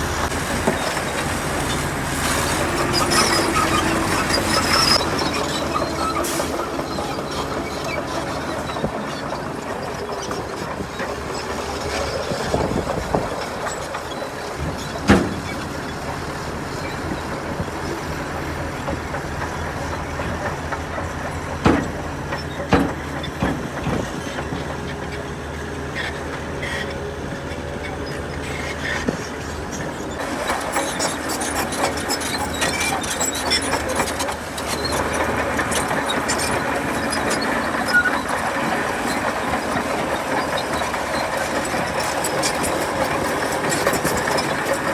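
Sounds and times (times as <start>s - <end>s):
diesel engine running: 0.0s - 44.9s
steel tracks clanking and squeaking: 0.0s - 44.9s.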